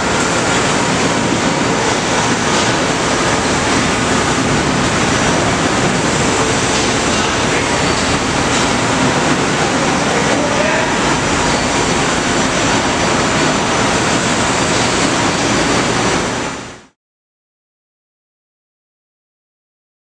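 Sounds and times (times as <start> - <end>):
faint steady whine: 0.0 - 16.9
machine shop hissing noise: 0.0 - 16.9.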